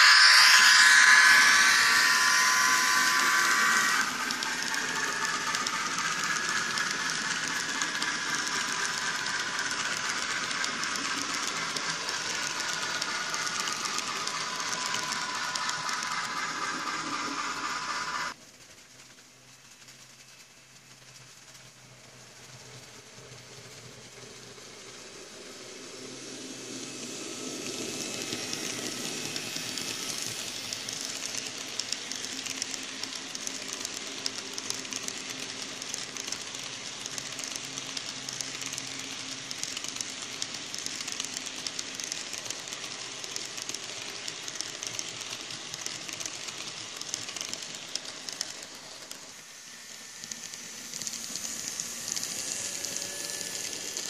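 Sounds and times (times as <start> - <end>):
model train wheels on track: 0.0 - 54.0.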